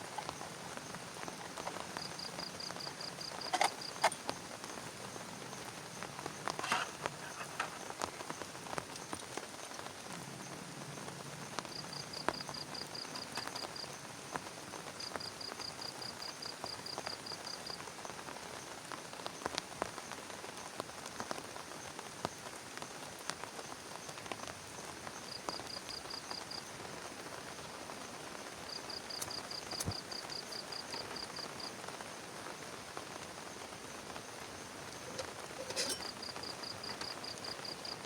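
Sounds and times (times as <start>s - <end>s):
rain on a plastic tarp: 0.0s - 38.0s.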